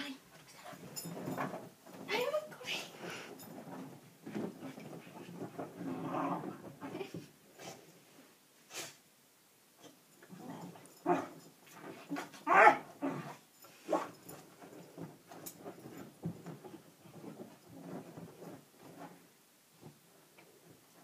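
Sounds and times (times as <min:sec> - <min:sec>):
dog scrabbling and snuffling: 0:00.3 - 0:07.9, 0:09.8 - 0:20.0.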